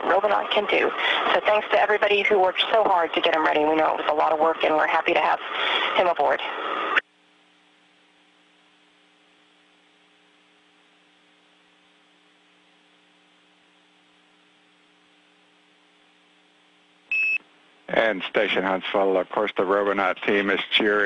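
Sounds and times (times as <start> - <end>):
faint electrical hum with hiss: 0.0 - 21.0.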